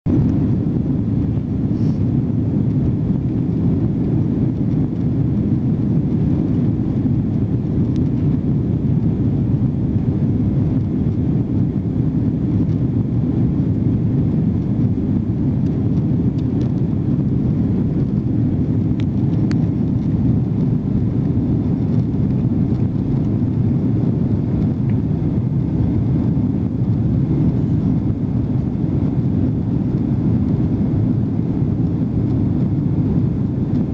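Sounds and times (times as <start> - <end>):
airplane cabin rumble: 0.0 - 33.9.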